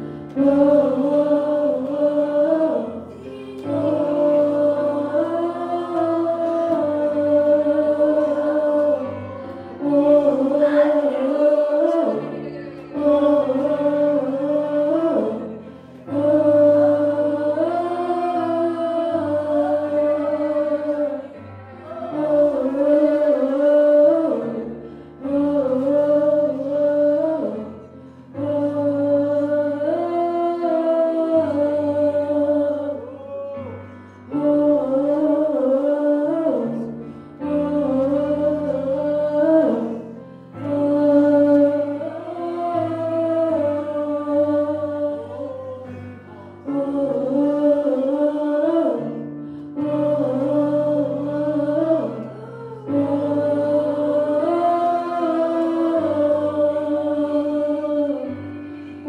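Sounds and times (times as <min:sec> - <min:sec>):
worship singing: 0:00.0 - 0:59.0.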